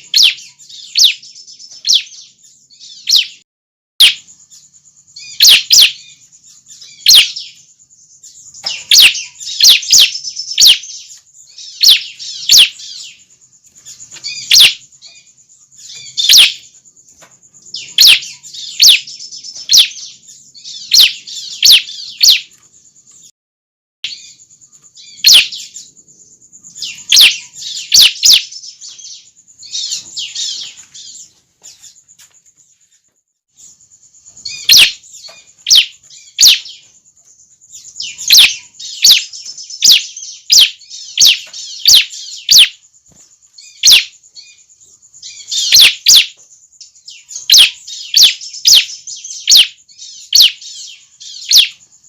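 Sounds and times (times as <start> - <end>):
bird sharp high chirps: 0.0 - 3.4, 4.0 - 23.3, 24.0 - 52.0.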